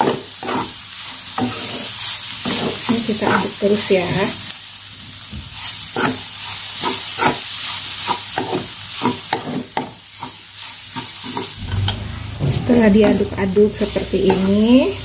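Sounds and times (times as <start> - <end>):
spatula scraping a wok: 0.0 - 4.2, 5.4 - 15.0
frying sizzle: 0.0 - 15.0.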